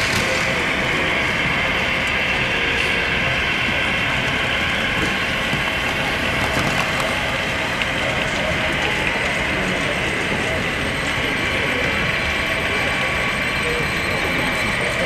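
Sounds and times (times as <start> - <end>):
model trains rolling on track: 0.0 - 15.0.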